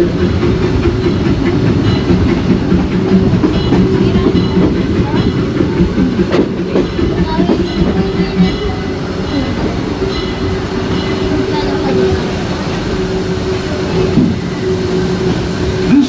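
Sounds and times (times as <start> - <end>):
train rumbling along track: 0.0 - 16.0.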